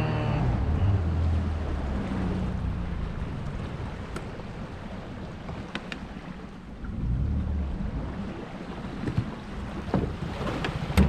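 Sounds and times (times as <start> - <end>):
outboard motor running: 0.0 - 11.0
water noise: 0.0 - 11.0.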